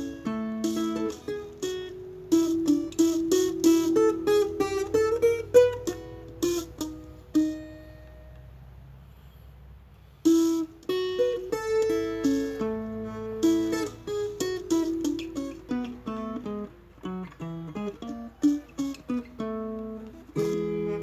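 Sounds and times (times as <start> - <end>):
plucked guitar melody: 0.0 - 9.0, 10.2 - 21.0.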